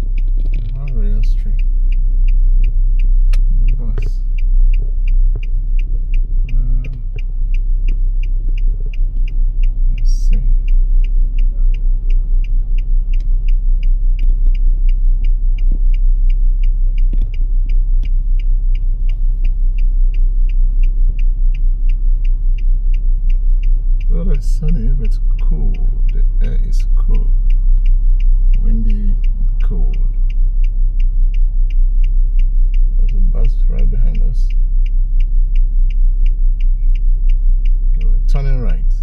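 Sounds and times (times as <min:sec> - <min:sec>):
engine and road rumble: 0:00.0 - 0:39.0
turn signal clicking: 0:00.0 - 0:39.0.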